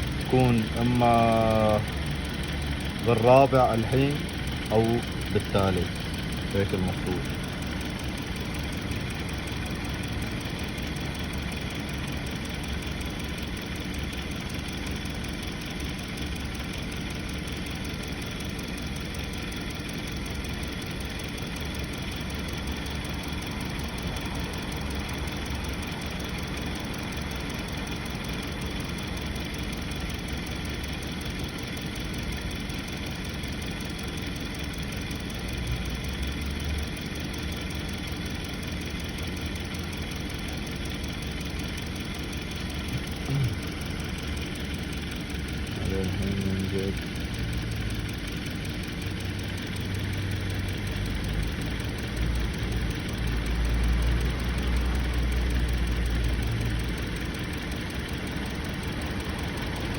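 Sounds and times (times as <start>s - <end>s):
car engine idling with misfire: 0.0s - 59.9s.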